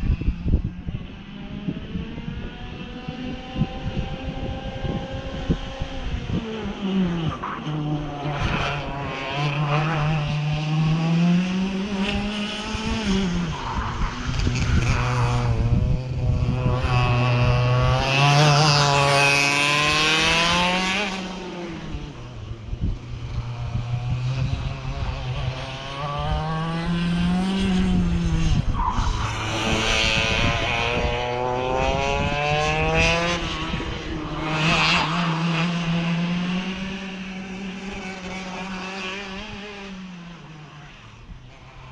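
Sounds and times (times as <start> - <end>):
racing kart engines passing: 0.1 - 41.9.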